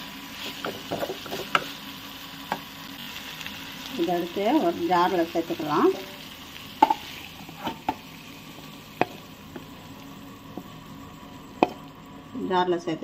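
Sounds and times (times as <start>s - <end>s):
low steady sizzle: 0.0s - 13.0s.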